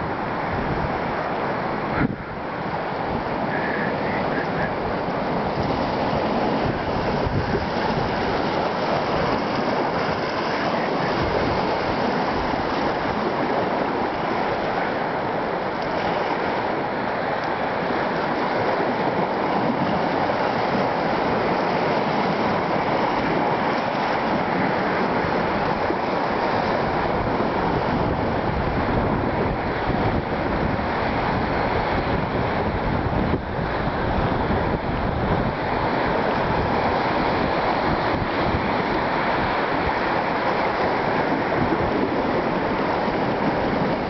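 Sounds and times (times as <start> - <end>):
waves splashing against rocks: 0.0 - 44.0
wind buffeting microphone: 0.0 - 44.0.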